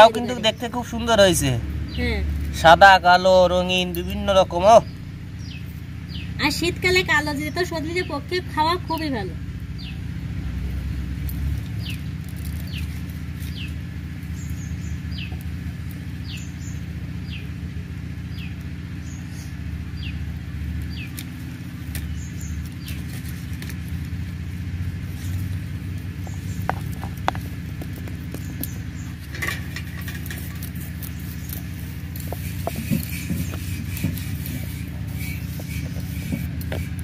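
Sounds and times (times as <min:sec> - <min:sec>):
steady low hum: 0:00.0 - 0:37.0
bird chirping: 0:04.0 - 0:08.4, 0:09.7 - 0:10.1, 0:11.6 - 0:37.0.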